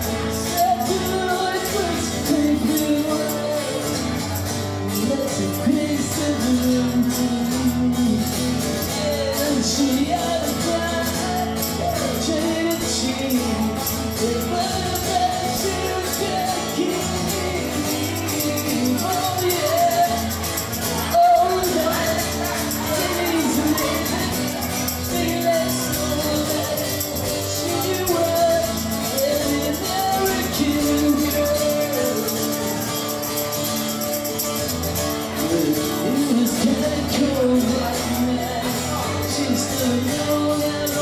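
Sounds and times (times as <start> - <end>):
live rock band playing: 0.0 - 41.0
tambourine shaken: 0.0 - 41.0
lead vocal singing: 0.3 - 33.0, 35.4 - 41.0.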